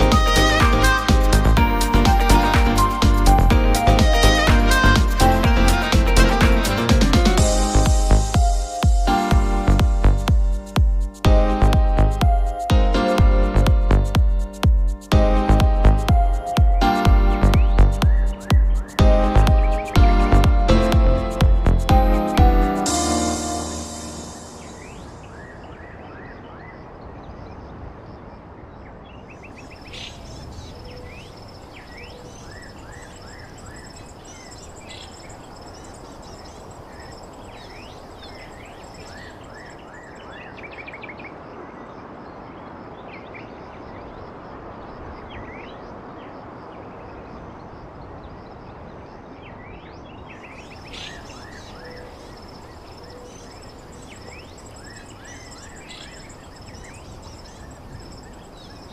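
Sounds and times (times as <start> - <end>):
birds chirping: 0.0 - 27.8, 28.8 - 58.9.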